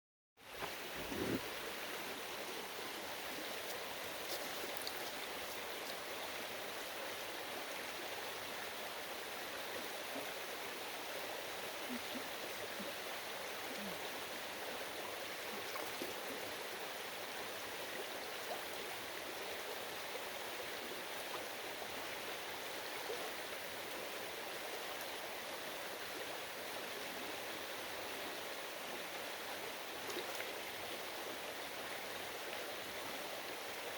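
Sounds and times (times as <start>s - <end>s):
stream water rushing: 0.4s - 33.9s.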